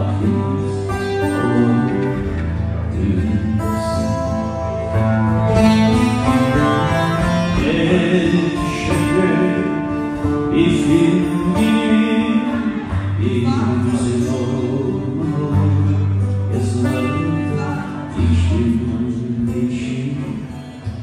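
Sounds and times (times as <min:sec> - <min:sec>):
person singing: 0:00.0 - 0:04.9, 0:05.6 - 0:21.0
acoustic guitar playing: 0:00.0 - 0:21.0.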